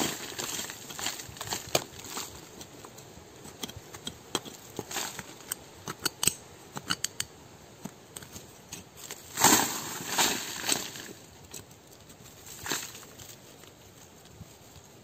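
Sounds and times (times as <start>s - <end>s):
hand tool scraping in dry soil: 0.0s - 15.0s.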